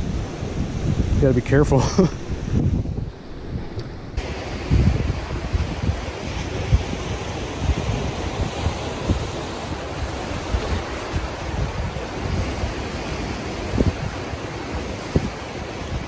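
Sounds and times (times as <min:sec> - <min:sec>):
surf washing over rocks: 0:00.0 - 0:16.0
wind buffeting microphone: 0:00.0 - 0:16.0.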